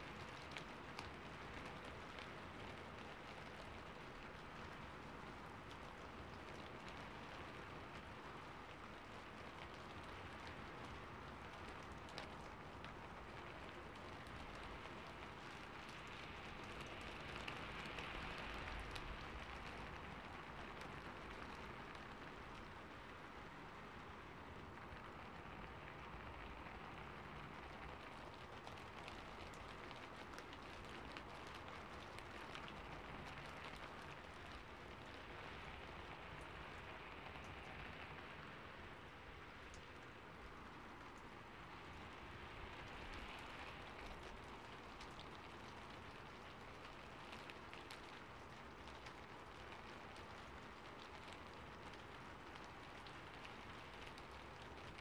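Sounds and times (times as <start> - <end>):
rain falling on a rooftop: 0.0 - 55.0.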